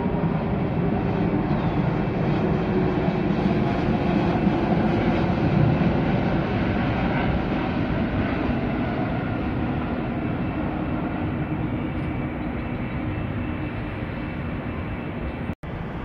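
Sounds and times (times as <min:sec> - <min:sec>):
jet airliner engine rumble: 0:00.0 - 0:16.0.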